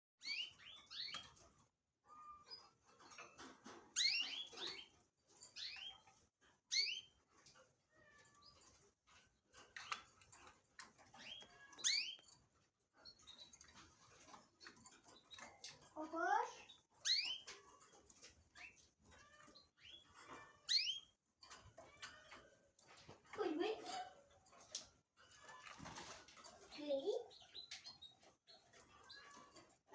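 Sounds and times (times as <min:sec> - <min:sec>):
canary singing: 0:00.2 - 0:01.5, 0:02.1 - 0:08.8, 0:09.5 - 0:29.9.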